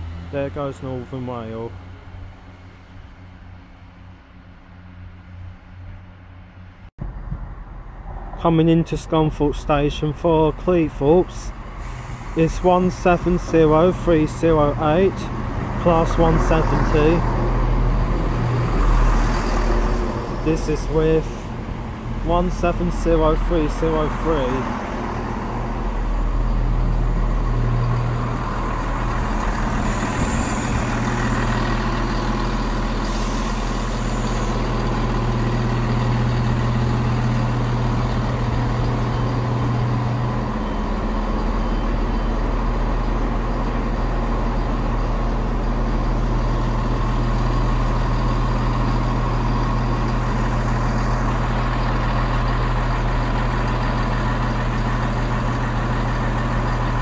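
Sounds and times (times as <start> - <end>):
train diesel engines idling: 7.6 - 57.0.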